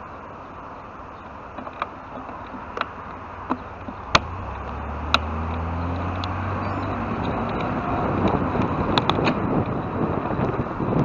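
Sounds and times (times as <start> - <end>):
car engine hum: 0.0 - 11.0
road and wind noise: 0.0 - 11.0.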